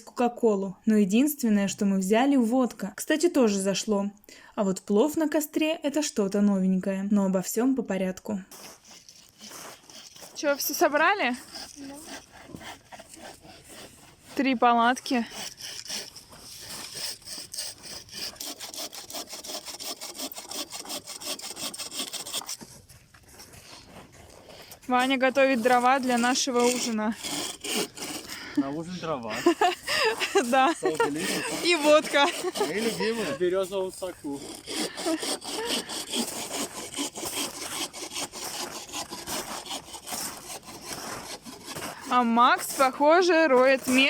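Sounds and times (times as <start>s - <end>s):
hand saw cutting wood: 8.5s - 44.0s.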